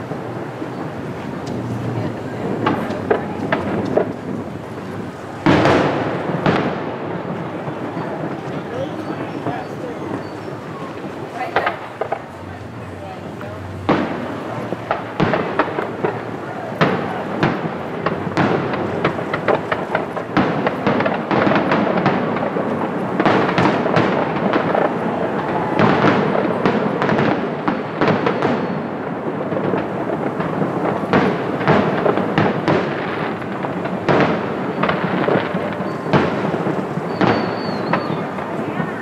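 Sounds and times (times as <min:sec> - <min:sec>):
fireworks bursts and crackling: 0:00.0 - 0:39.0.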